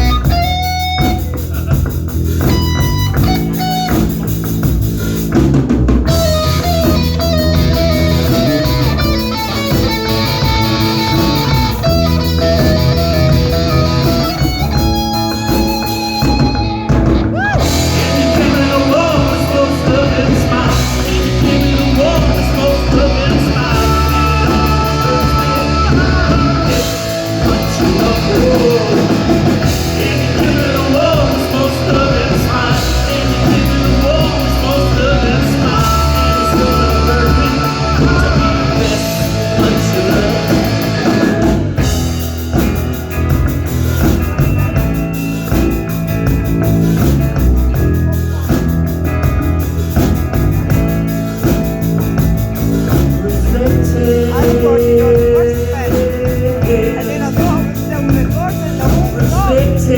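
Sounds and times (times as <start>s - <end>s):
drums and cymbals: 0.0s - 59.9s
live rock band instrumental: 0.0s - 59.9s.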